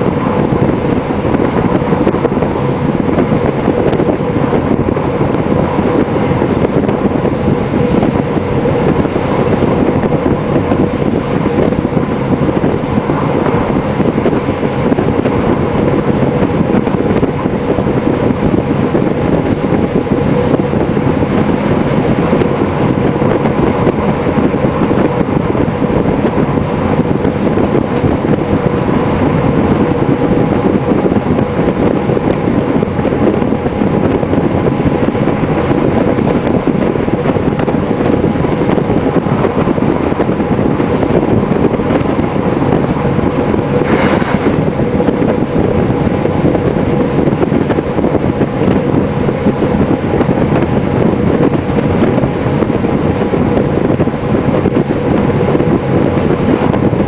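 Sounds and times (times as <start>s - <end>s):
held humming tones: 0.0s - 57.0s.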